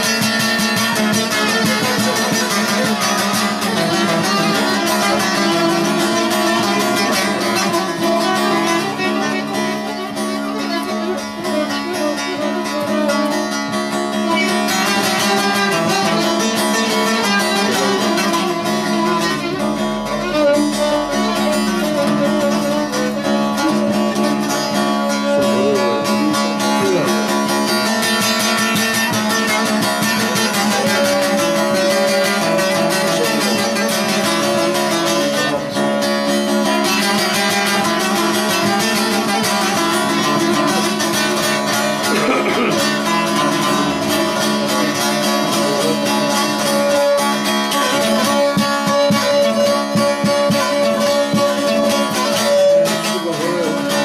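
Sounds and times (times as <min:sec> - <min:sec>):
long-necked lute plucked rapidly: 0:00.0 - 0:54.0.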